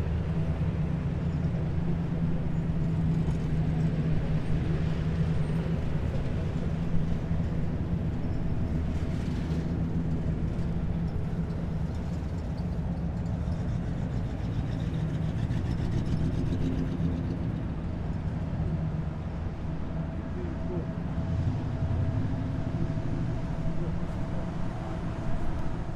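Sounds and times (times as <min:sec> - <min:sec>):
heavy diesel engines droning: 0:00.0 - 0:25.9.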